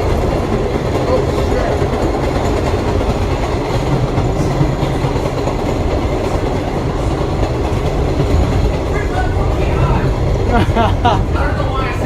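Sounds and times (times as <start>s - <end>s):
clickety-clack over rail joints: 0.0s - 12.0s
subway wheels rumbling on rail: 0.0s - 12.0s.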